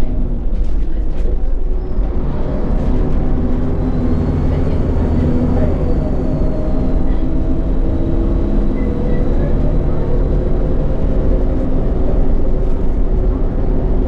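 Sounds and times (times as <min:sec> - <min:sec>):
low bus engine rumble: 0:00.0 - 0:14.0
road noise: 0:00.0 - 0:14.0.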